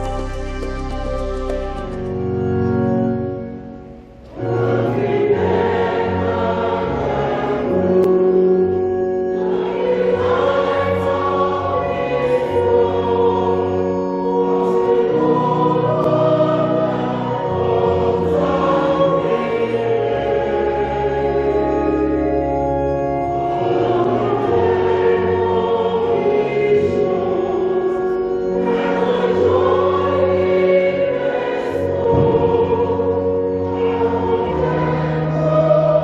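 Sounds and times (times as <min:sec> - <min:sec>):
choir singing church music: 0:00.0 - 0:36.0.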